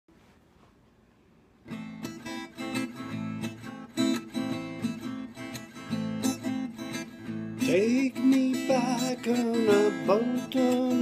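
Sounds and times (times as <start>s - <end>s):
acoustic guitar strummed: 1.6s - 11.0s.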